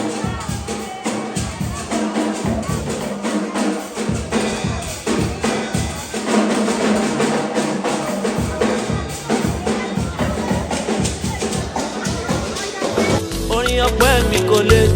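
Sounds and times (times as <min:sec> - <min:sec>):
drum kit beat: 0:00.0 - 0:14.9.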